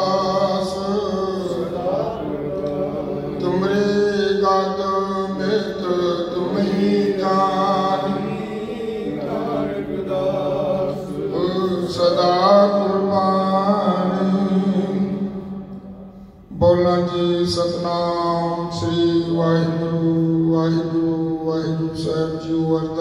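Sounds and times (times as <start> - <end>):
person singing a hymn: 0.0 - 23.0.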